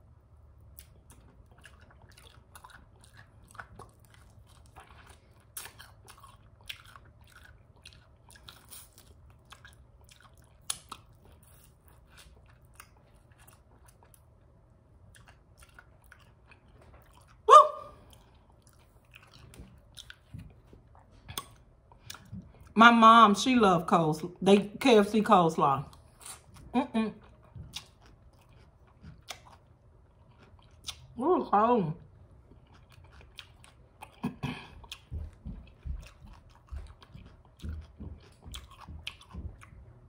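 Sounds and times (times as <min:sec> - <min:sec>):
chewing: 0:00.5 - 0:22.8, 0:25.8 - 0:31.2, 0:32.0 - 0:40.0.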